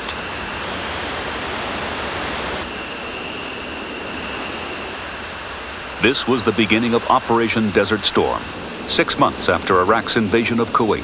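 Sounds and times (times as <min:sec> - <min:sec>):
jet engines running: 0:00.0 - 0:11.0
thin high whine: 0:00.0 - 0:11.0.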